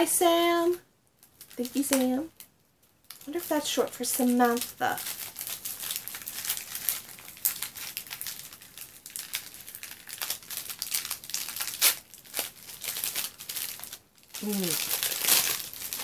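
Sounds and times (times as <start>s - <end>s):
crinkly wrapping crackling: 0.0s - 16.0s.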